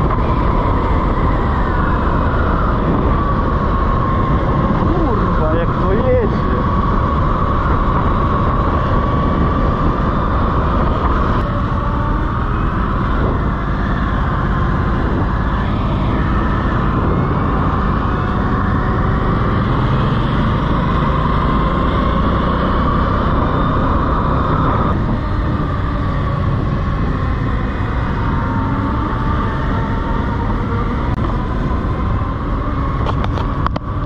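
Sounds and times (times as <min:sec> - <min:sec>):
electric motor whine: 0:00.0 - 0:34.0
wind rushing over microphone: 0:00.0 - 0:34.0.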